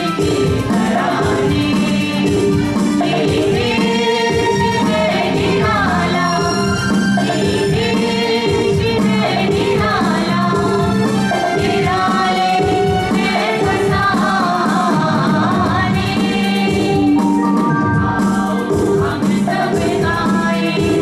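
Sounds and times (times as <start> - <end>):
group singing into microphones: 0.0 - 21.0.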